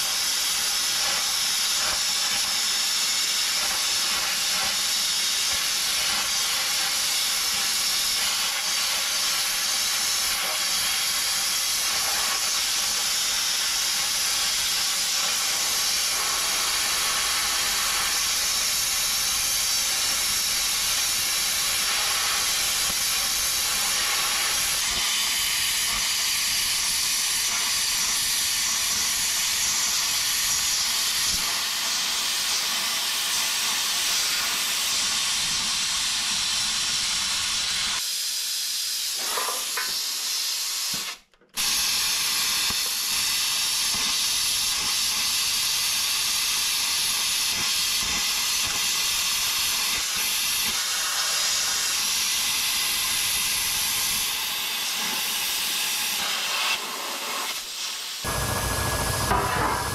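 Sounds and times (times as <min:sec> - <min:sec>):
plasma cutter hissing: 0:00.0 - 0:59.9.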